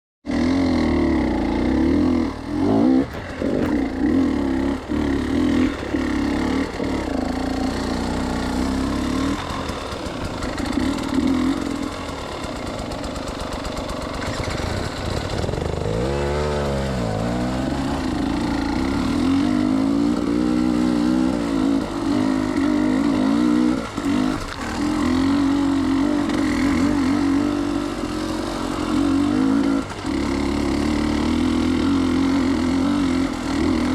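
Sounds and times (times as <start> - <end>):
dirt bike engine revving: 0.3 - 33.9.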